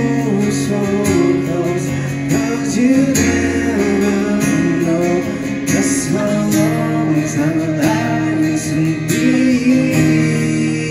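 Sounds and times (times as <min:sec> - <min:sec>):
acoustic guitar strumming: 0:00.0 - 0:10.9
man singing wordlessly: 0:00.0 - 0:10.9.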